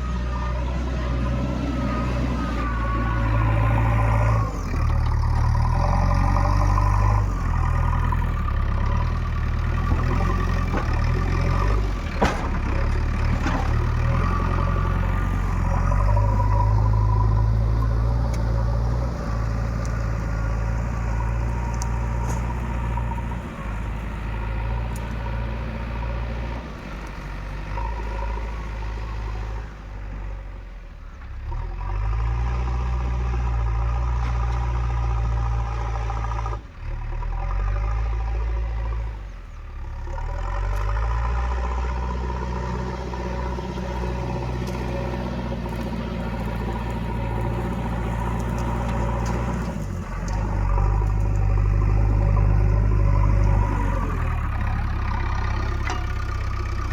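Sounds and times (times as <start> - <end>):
diesel engine under changing load: 0.0 - 56.9.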